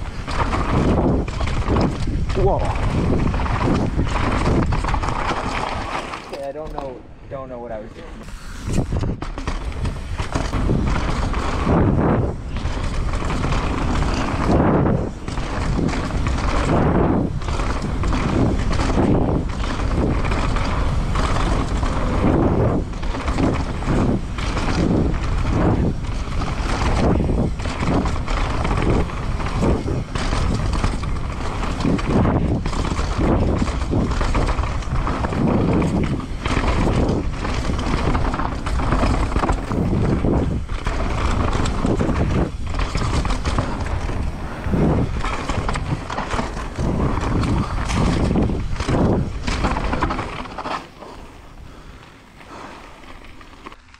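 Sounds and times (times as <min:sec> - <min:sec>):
bike knocking and rattling: 0:00.0 - 0:53.9
rush of tyre and trail noise: 0:00.0 - 0:53.9.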